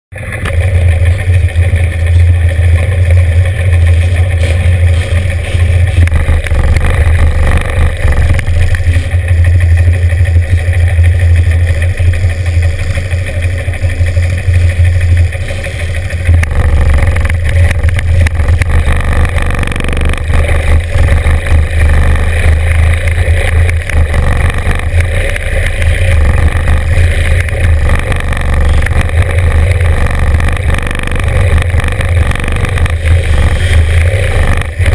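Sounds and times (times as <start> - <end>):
motorcycle engines idling: 0.1 - 34.9.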